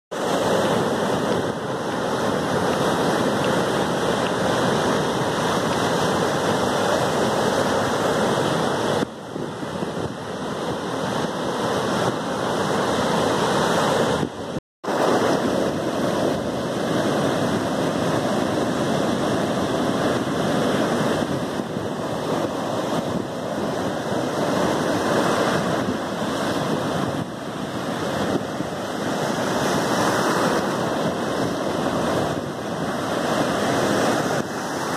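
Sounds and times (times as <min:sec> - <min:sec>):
sea waves breaking: 0:00.1 - 0:34.9.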